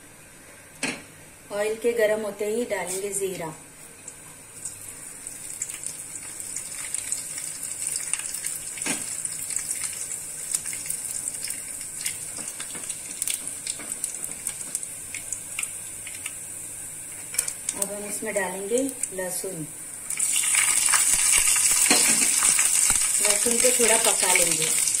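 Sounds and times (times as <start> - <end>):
seeds sizzling in hot oil: 4.5 - 25.0.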